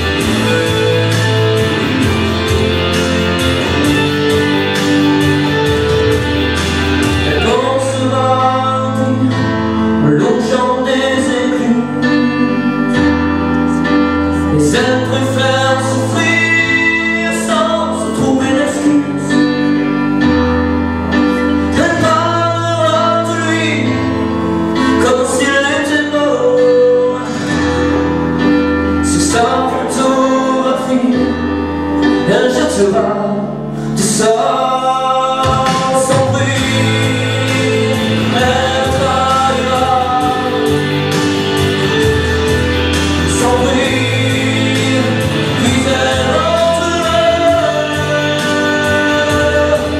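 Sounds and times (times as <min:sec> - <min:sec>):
instrumental accompaniment with bass: 0:00.0 - 0:49.9
man singing into a microphone: 0:00.0 - 0:49.9.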